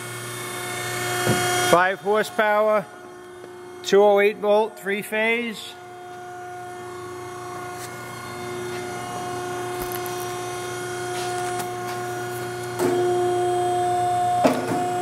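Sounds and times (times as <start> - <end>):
hydraulic pump motor humming: 0.0 - 15.0.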